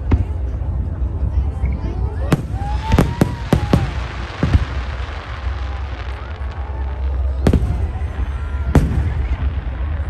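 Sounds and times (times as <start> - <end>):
fireworks rumble and crackle: 0.0 - 10.0.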